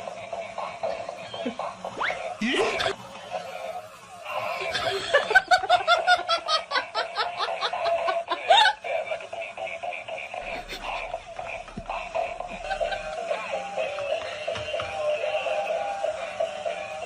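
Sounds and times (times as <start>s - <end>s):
rapid laughter: 0.0s - 14.7s.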